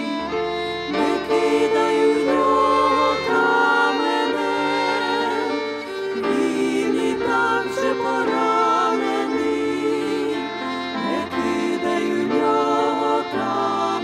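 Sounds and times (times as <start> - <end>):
sustained instrumental accompaniment: 0.0 - 14.0
women singing hymn in harmony: 0.0 - 14.0.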